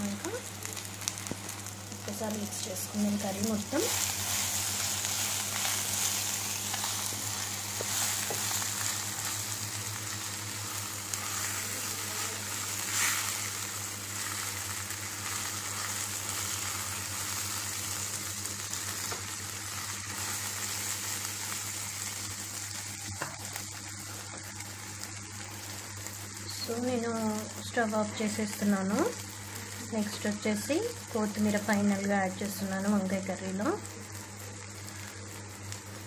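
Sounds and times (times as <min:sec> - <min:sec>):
curry sizzling in oil: 0:00.0 - 0:36.0.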